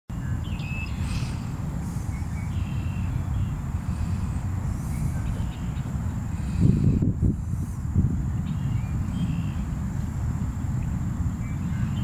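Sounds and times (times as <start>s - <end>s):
faint birds chirping: 0.1s - 12.0s.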